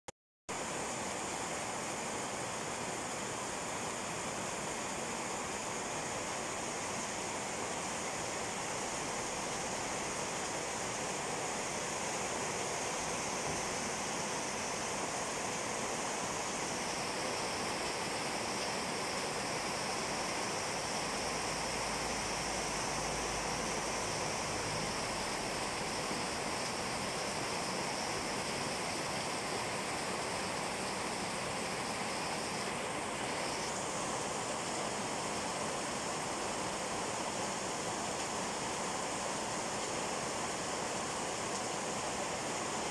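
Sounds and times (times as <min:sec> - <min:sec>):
runoff water pouring and splashing: 0:00.5 - 0:42.9
rain on metal roofs: 0:00.6 - 0:42.9.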